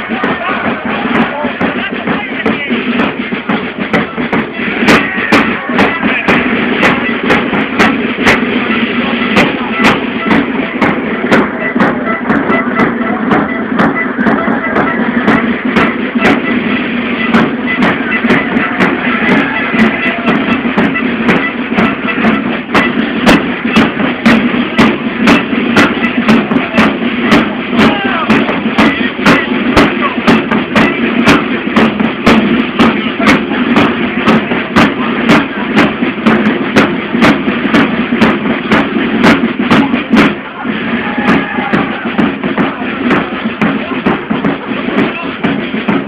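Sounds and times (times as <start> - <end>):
carnival band music: 0.0 - 46.0
crowd voices: 0.0 - 46.0
steady drumbeat: 0.0 - 46.0.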